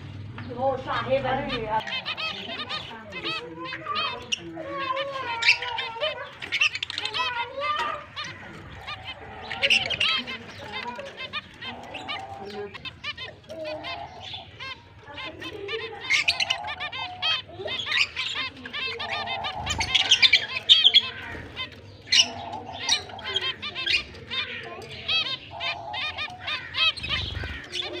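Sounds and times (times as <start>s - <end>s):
finches chirping: 0.0s - 28.0s
nasal beeping bird calls: 0.8s - 28.0s.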